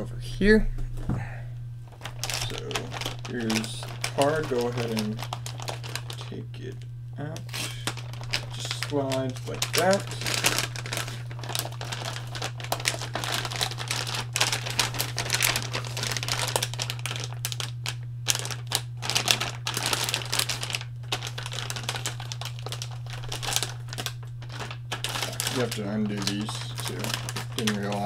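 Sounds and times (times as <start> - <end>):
steady low hum: 0.0 - 28.0
plastic bag crinkling: 1.9 - 28.0.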